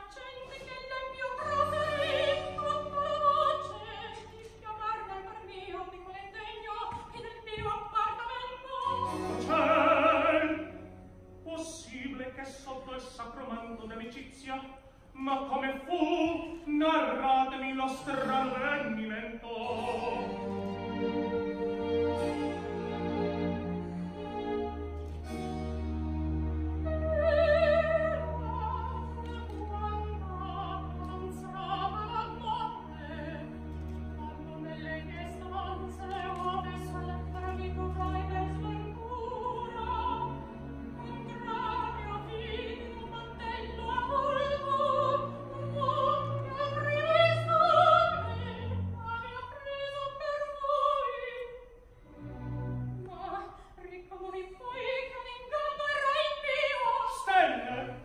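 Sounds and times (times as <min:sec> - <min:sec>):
soprano singing opera: 0:00.0 - 0:23.1, 0:26.7 - 0:51.7, 0:53.0 - 0:58.0
orchestra low strings: 0:00.0 - 0:58.0.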